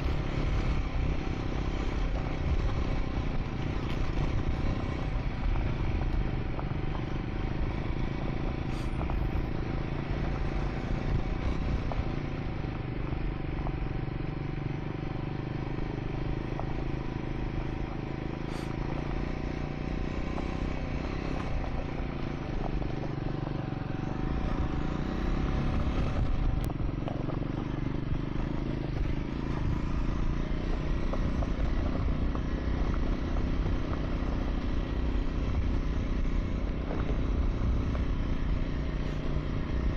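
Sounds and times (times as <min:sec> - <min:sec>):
clatter from loose dirt: 0:00.0 - 0:13.8, 0:15.9 - 0:39.9
motorcycle engine running: 0:00.0 - 0:39.9.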